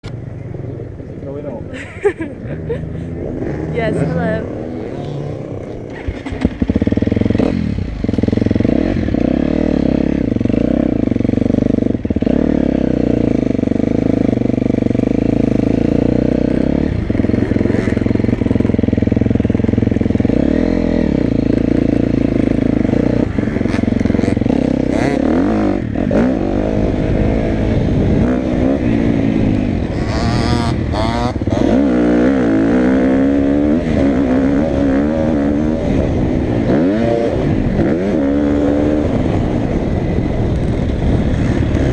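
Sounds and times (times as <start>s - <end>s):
dirt bike engine revving: 2.1s - 41.9s.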